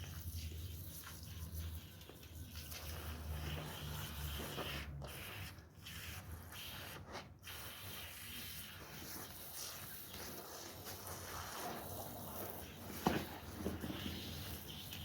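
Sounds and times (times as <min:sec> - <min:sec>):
wet hissing and rubbing of rug: 0:00.2 - 0:15.0.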